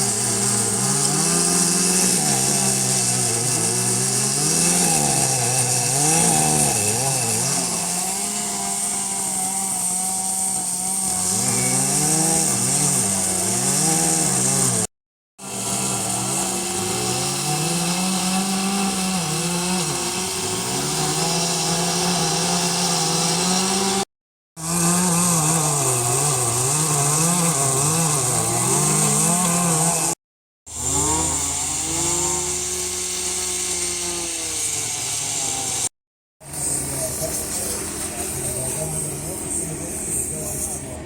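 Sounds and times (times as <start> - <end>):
chainsaw cutting wood: 0.0 - 41.0.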